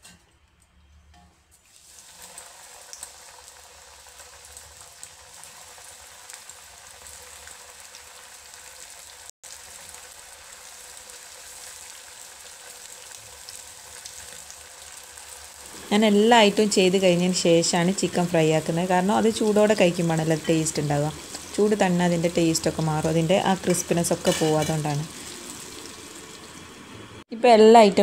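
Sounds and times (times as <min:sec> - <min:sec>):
chicken deep-frying in oil: 0:01.5 - 0:27.2.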